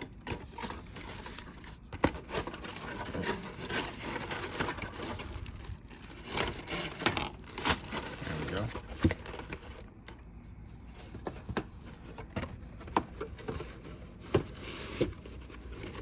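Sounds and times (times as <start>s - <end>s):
cardboard box rustling: 0.1s - 10.1s, 10.7s - 16.0s.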